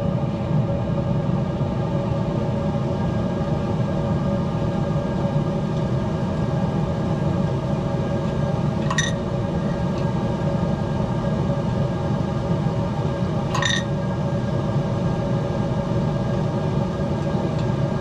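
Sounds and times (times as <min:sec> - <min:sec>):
grill motor and fan humming: 0:00.0 - 0:18.0.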